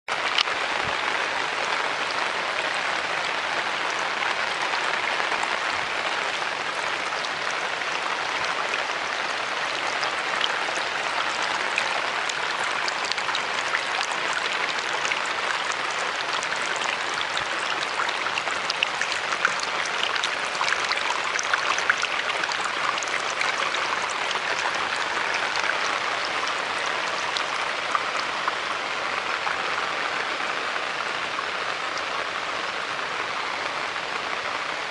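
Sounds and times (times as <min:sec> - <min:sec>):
water rushing down bamboo channel: 0:00.1 - 0:34.9
water splashes and drips: 0:00.1 - 0:34.9.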